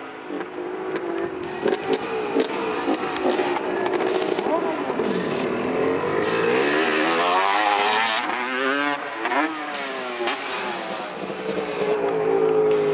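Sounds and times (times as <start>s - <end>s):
dirt bike engine revving: 1.4s - 12.9s.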